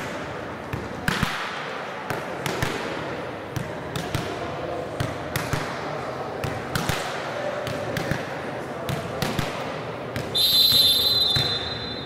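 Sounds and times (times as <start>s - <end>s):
low hum of voices: 0.0s - 10.4s
volleyballs hit and bouncing on floor: 0.0s - 12.0s.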